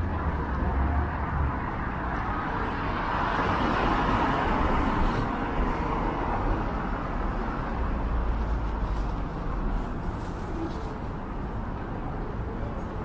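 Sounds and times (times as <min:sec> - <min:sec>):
passing vehicles: 0:00.0 - 0:13.0.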